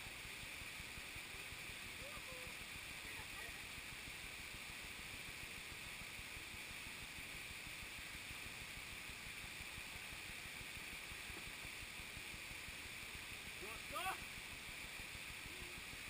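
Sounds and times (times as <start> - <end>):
flowing water and waterfall: 0.0 - 16.0.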